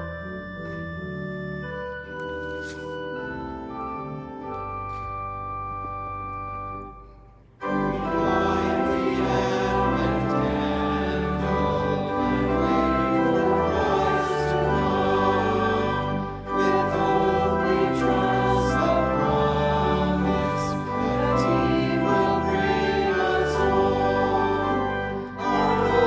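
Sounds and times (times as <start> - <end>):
church organ playing chords: 0.0 - 26.0.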